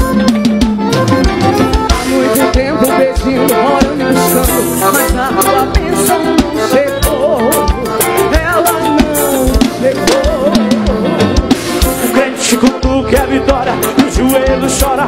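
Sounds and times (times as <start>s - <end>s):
drum kit beat: 0.0s - 15.0s
keyboards: 0.0s - 15.0s
wavering melody line: 0.0s - 15.0s.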